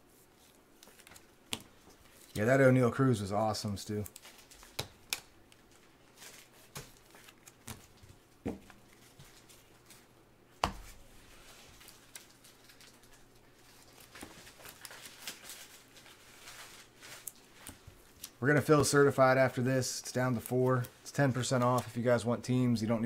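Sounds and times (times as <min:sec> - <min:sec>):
cards shuffling and rustling: 0:00.2 - 0:02.6, 0:03.6 - 0:10.1, 0:10.8 - 0:18.9, 0:20.2 - 0:22.1.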